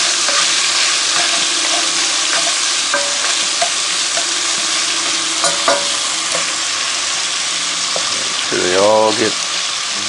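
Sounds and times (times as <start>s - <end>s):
meat sizzling in a pot: 0.0s - 10.0s.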